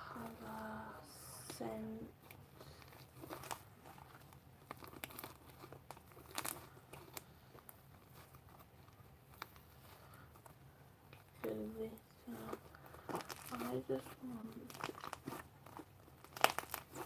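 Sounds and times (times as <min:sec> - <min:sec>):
slime crackling and popping: 0:01.4 - 0:10.2, 0:11.1 - 0:17.0.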